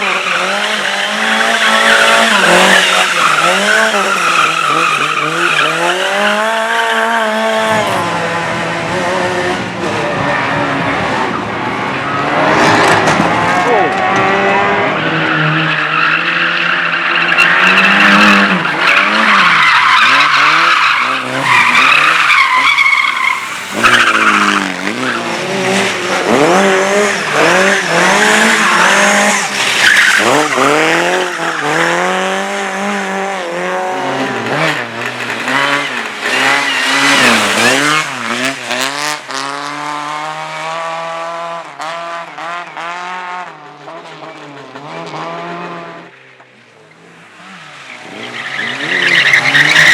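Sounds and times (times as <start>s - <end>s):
tyres squealing and skidding: 0.0s - 8.4s, 9.6s - 40.6s, 46.8s - 49.9s
race car engine revving: 0.0s - 49.9s.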